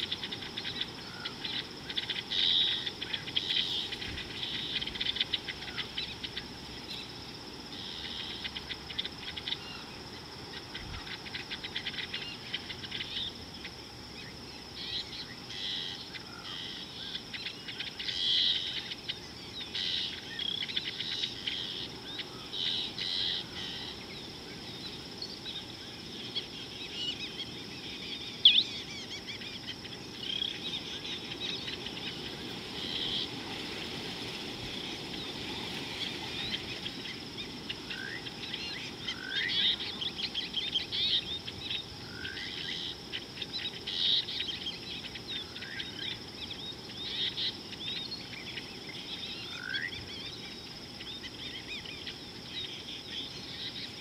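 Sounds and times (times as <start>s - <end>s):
birds chirping: 0.0s - 54.0s
high insect drone: 0.0s - 54.0s.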